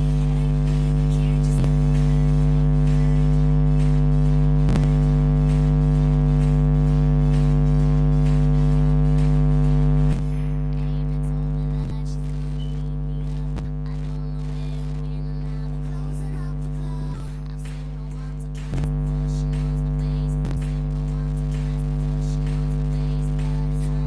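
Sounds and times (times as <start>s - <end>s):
loud stacked drone hum: 0.0s - 24.0s.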